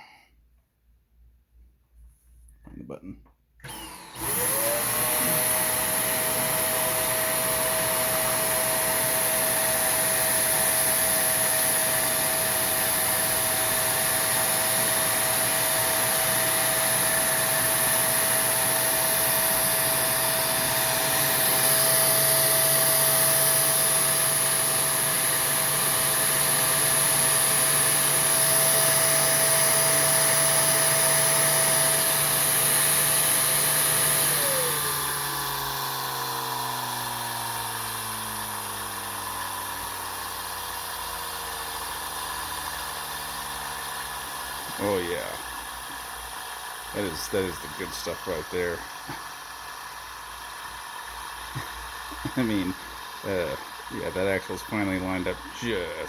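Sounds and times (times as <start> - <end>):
vacuum cleaner motor whine: 3.6 - 56.0.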